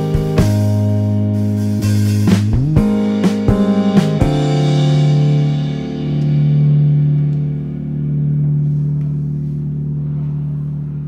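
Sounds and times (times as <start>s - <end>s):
low held music chord: 0.0s - 11.0s.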